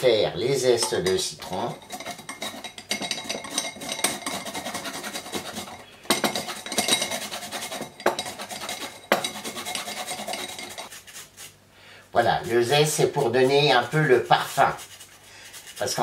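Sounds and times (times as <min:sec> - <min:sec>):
lime rind scraping on grater: 0:01.7 - 0:11.5, 0:12.9 - 0:16.0.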